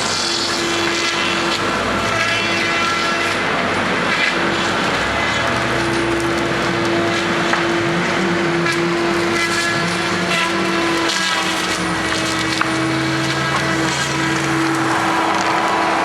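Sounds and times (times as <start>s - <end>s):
machine running with hum: 0.0s - 16.0s.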